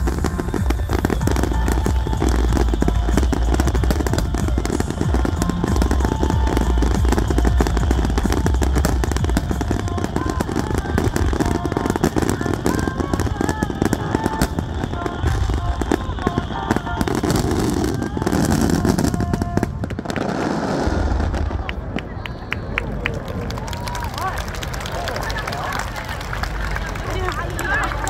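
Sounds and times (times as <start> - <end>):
fireworks bangs and crackling: 0.0 - 22.8.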